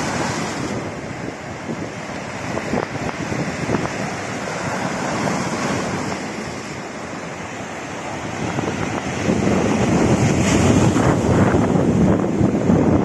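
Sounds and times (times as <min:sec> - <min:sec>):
sea waves breaking on rocks: 0:00.0 - 0:13.0
wind buffeting microphone: 0:00.0 - 0:13.0.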